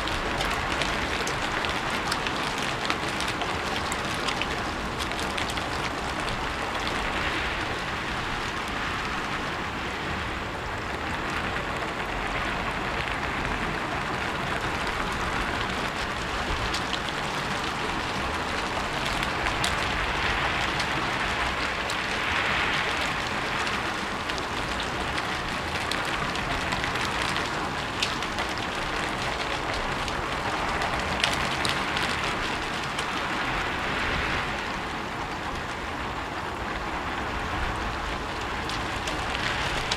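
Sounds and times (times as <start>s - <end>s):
rain on a rooftop: 0.0s - 39.9s.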